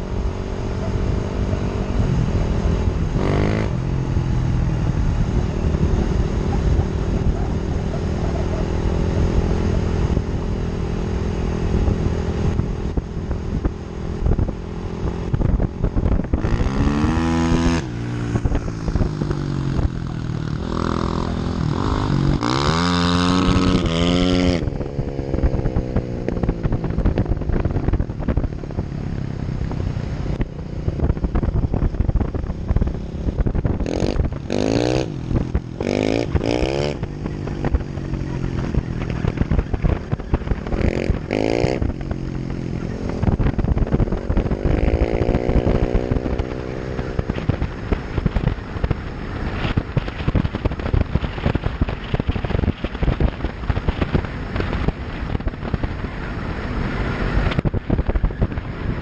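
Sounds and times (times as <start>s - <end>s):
vehicle engine revving: 0.0s - 59.0s
wind and tyre rumble: 0.0s - 59.0s.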